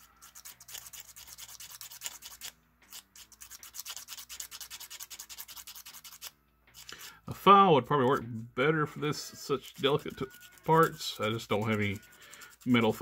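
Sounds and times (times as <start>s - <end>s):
sandpaper scratching plastic: 0.0s - 7.1s, 9.1s - 13.0s.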